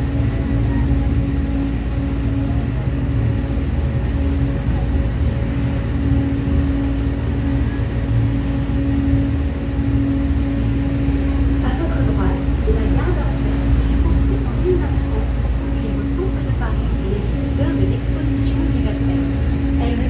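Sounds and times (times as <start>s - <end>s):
boat engine humming: 0.0s - 20.0s
water washing along hull: 0.0s - 20.0s.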